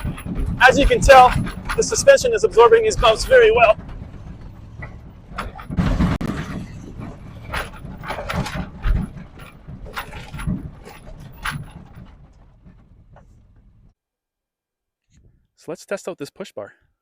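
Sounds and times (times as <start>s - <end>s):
suspension clunks and rattles: 0.0s - 14.0s
truck engine low rumble: 0.0s - 14.0s.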